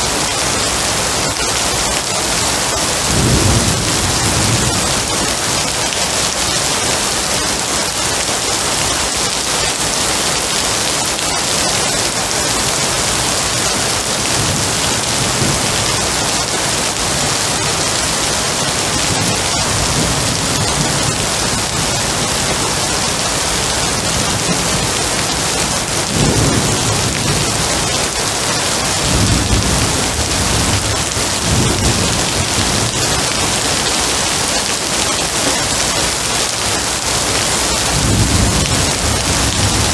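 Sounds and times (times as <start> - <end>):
low thunder rumbles: 0.0 - 8.0, 12.0 - 39.9
heavy rain: 0.0 - 39.9.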